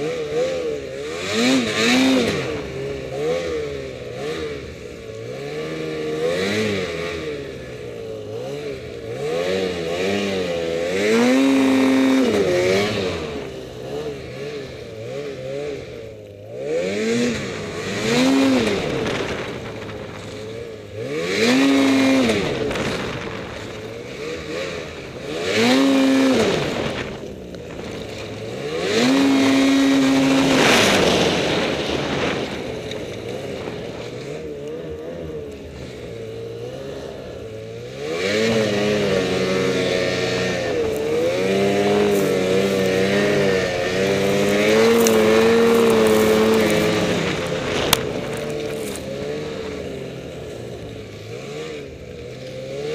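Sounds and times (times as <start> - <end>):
snowmobile engine revving: 0.0 - 52.9.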